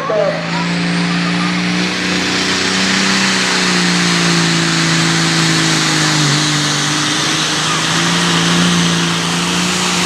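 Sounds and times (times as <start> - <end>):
dense rushing noise: 0.0 - 10.0
tractor diesel engine under load: 0.0 - 10.0.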